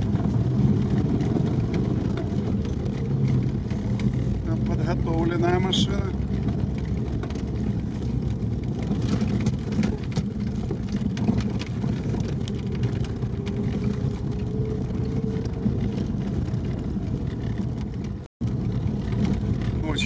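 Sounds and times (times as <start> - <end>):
cab knocks and rattles: 0.0 - 20.0
vehicle engine rumble: 0.0 - 20.0.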